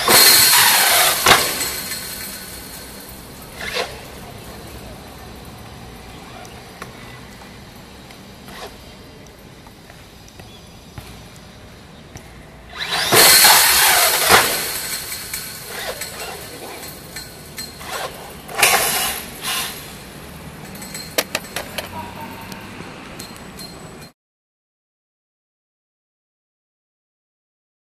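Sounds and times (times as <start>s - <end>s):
rc truck motor and tyres: 0.0s - 24.1s.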